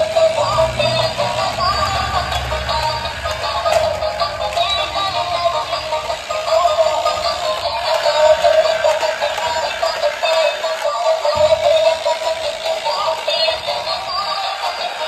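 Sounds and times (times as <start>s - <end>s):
toy electronic tune with singing: 0.0s - 15.0s.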